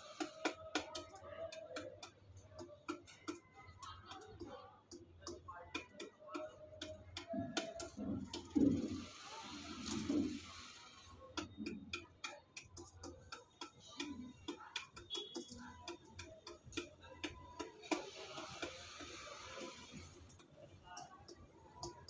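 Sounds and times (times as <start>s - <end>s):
pigeon beak tapping metal pan: 0.0s - 22.0s.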